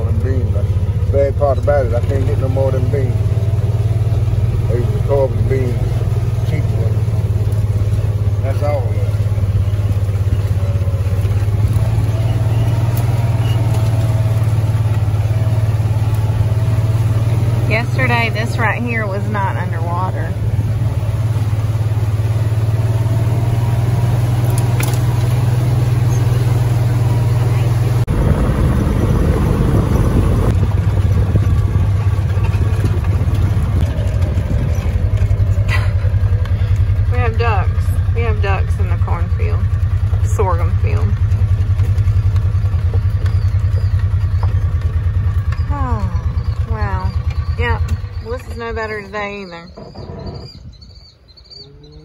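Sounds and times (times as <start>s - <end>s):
vehicle engine running at low revs: 0.0s - 52.0s.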